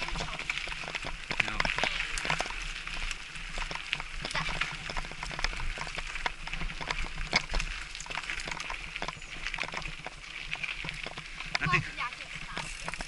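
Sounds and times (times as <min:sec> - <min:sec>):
bike rattling: 0:00.0 - 0:13.0
tyres crunching on gravel: 0:00.0 - 0:13.0.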